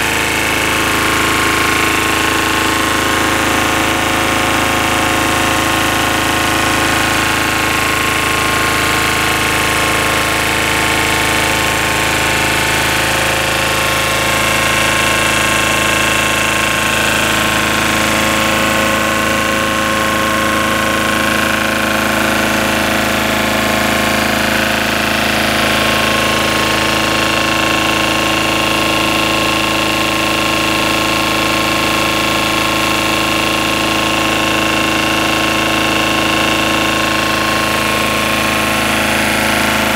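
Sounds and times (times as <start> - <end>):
diesel generator engine running: 0.0 - 39.9.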